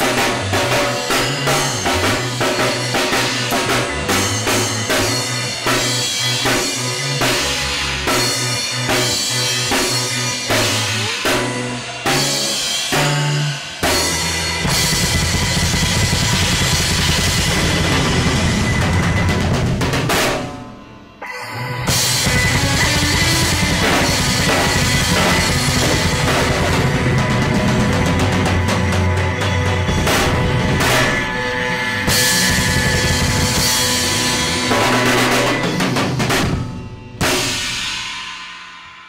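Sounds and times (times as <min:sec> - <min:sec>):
rock recording with bass: 0:00.0 - 0:38.5
rock drum kit playing: 0:00.0 - 0:39.0.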